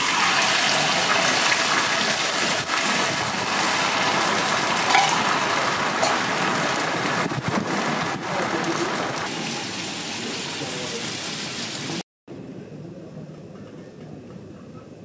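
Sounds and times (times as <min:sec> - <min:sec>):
egg sizzling on griddle: 0:00.0 - 0:12.0.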